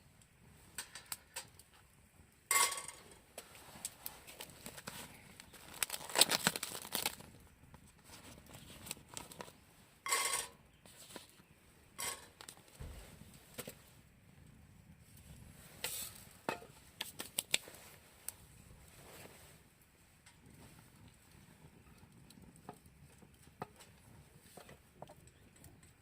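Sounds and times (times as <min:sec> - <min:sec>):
crinkling and rustling: 0:00.6 - 0:14.1, 0:14.9 - 0:26.0.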